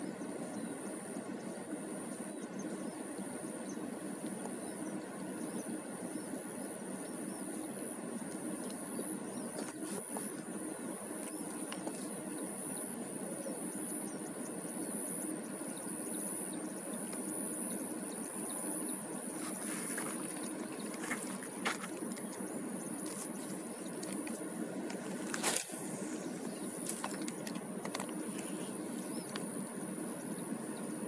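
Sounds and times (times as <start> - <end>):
high-pitched whine: 0.0 - 31.0.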